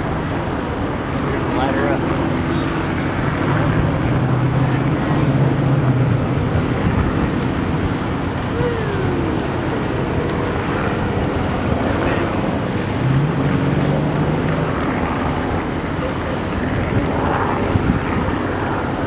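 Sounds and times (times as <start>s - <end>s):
crowd chatter: 0.0s - 19.0s
low engine hum: 0.0s - 19.0s
traffic: 0.0s - 19.0s.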